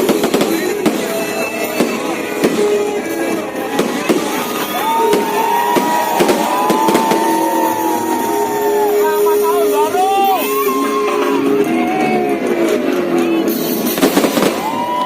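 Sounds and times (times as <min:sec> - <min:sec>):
fireworks bangs and crackles: 0:00.0 - 0:15.0
music over sound system: 0:00.0 - 0:15.0.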